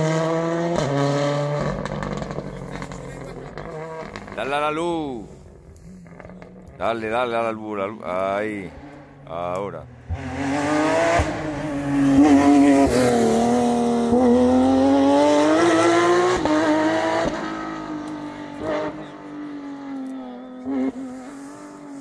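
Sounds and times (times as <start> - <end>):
rally car engine passing: 0.0 - 22.0.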